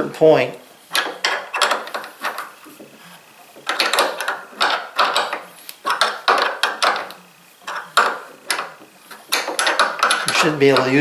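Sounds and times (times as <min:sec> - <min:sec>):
metallic scraping and clinking: 0:00.8 - 0:11.0.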